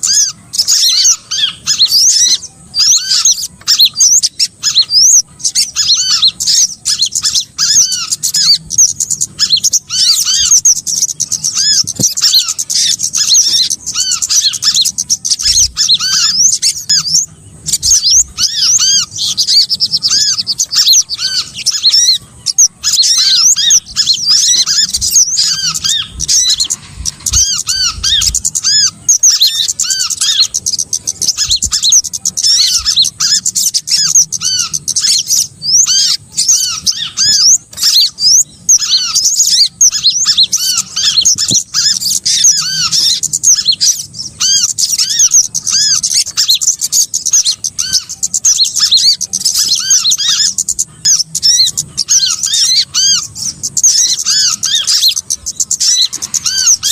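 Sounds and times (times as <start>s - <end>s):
small songbirds chirping: 0.0s - 56.9s.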